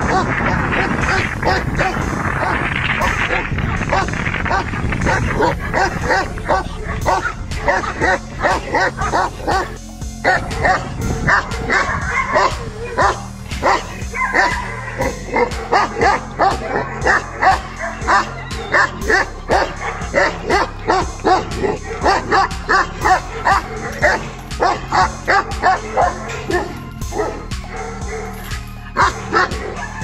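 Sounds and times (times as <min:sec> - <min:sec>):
background music: 0:00.0 - 0:30.0
dog barking aggressively: 0:00.0 - 0:30.0.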